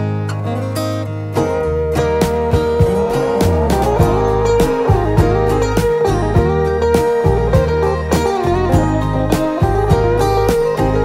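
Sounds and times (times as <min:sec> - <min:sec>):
country guitar music: 0:00.0 - 0:11.0.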